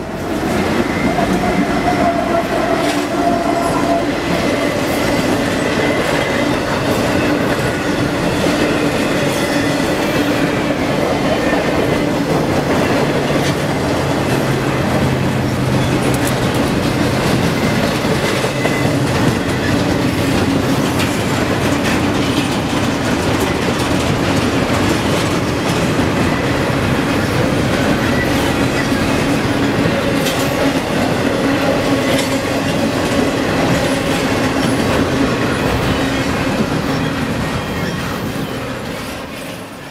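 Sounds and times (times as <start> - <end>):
steel wheels rumbling on rail: 0.0 - 39.9
wheels clicking over rail joints: 0.2 - 39.6.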